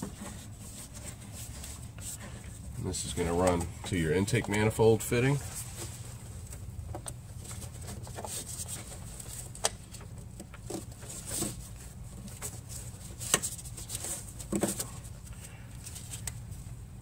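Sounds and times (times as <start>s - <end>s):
hands handling rubber hose: 0.0s - 16.7s
steady low hum: 0.0s - 17.0s.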